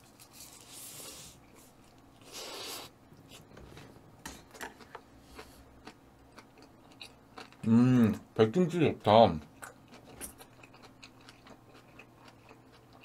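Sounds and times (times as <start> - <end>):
person chewing: 0.0 - 3.5, 4.4 - 8.2, 9.4 - 13.0.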